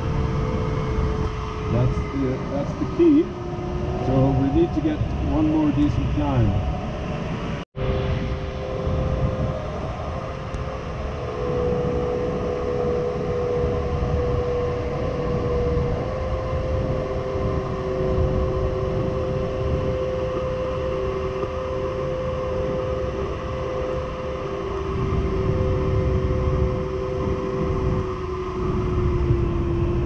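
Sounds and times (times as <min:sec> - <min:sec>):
thin electronic variometer tones: 0:00.0 - 0:30.0.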